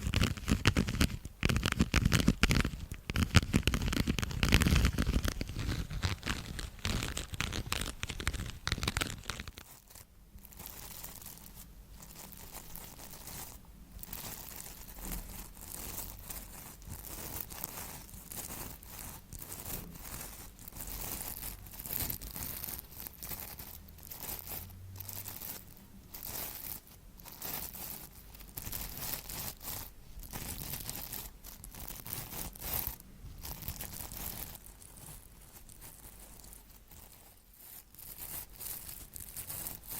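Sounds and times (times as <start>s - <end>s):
crinkling and crackling: 0.0s - 39.9s
rustling: 0.0s - 39.9s.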